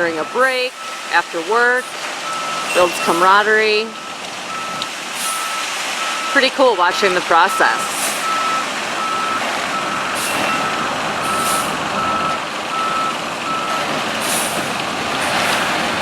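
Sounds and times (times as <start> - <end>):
truck reversing alarm beeping: 0.0 - 14.7
truck engine running: 0.0 - 16.0.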